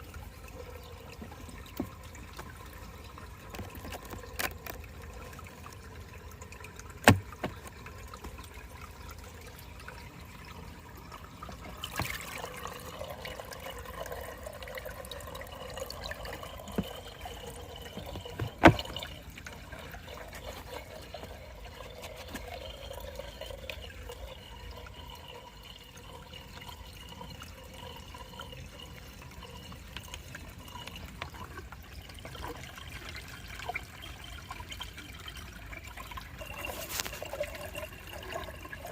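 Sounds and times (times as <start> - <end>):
aquarium water trickling: 0.0 - 38.9
faint steady hum: 0.0 - 38.9.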